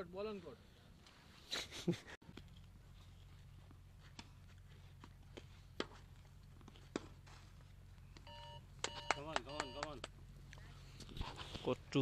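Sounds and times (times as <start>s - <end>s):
steady low hum: 1.9s - 12.0s.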